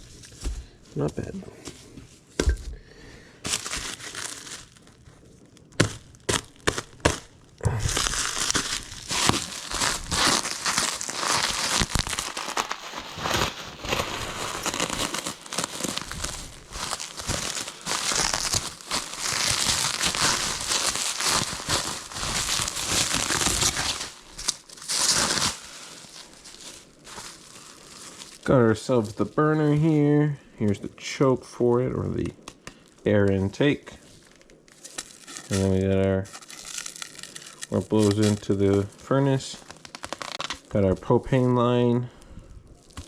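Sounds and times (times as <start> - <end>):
packaging wrap crinkling and tearing: 3.4 - 30.1, 32.2 - 41.5, 42.8 - 43.0.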